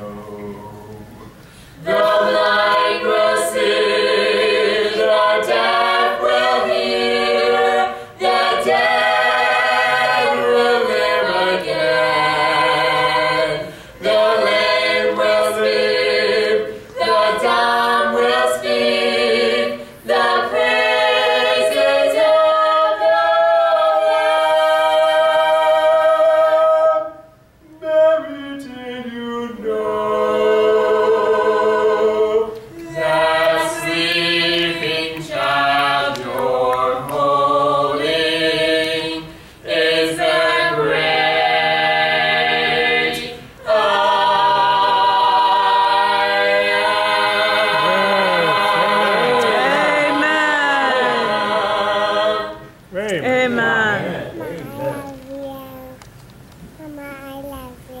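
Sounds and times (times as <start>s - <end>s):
vocal trio singing in harmony: 0.0s - 55.1s.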